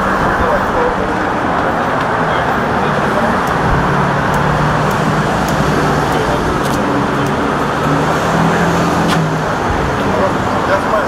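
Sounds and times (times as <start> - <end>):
idling vehicle engines hum: 0.0 - 11.0
street traffic noise: 0.0 - 11.0.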